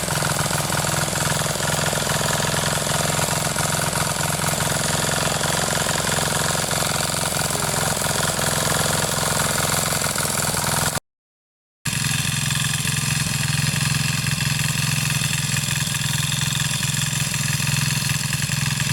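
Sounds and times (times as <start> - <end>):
power tiller engine running: 0.0 - 11.0, 11.9 - 18.9.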